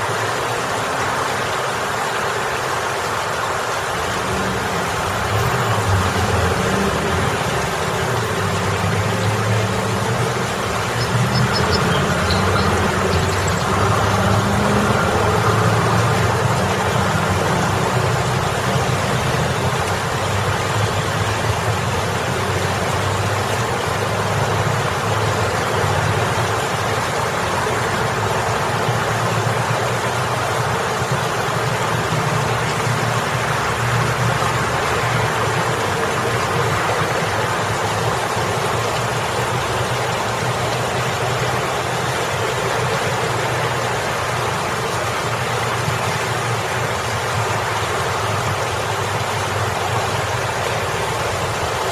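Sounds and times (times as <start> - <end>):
fountain water splashing: 0.0 - 51.9
road traffic rumble: 0.0 - 51.9.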